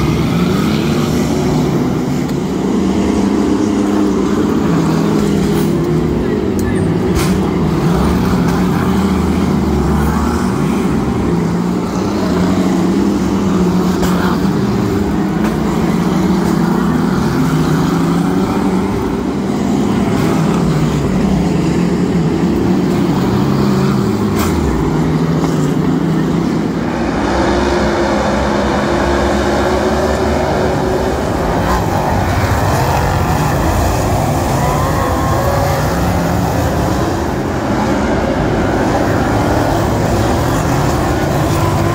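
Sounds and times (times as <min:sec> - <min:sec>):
race car engines: 0:00.0 - 0:41.9.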